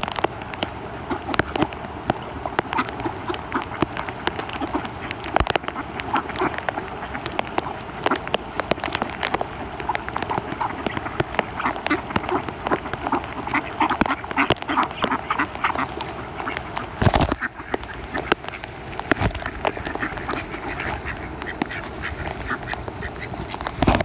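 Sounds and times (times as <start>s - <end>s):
ducks quacking: 0.9s - 1.7s, 2.3s - 9.1s, 9.8s - 24.0s.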